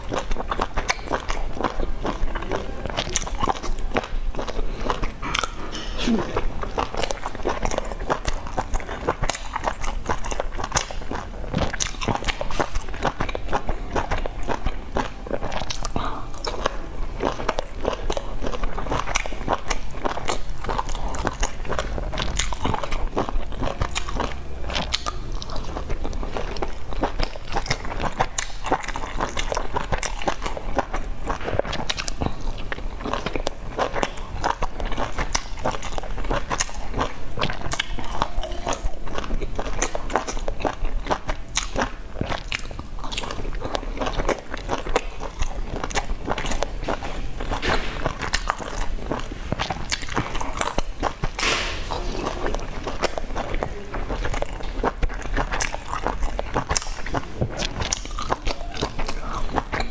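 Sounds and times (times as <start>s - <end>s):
mouth chewing clicks and smacks: 0.0s - 59.9s.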